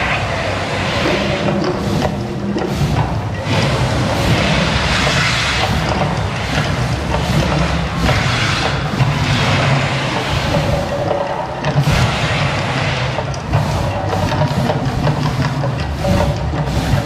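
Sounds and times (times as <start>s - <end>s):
roaring gas fire effects: 0.0s - 17.0s.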